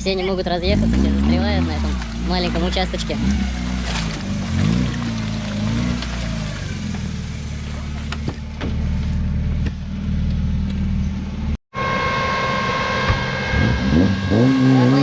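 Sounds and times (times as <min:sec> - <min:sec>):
engine high whine: 0:00.0 - 0:15.0
off-road vehicle engine running: 0:00.0 - 0:15.0.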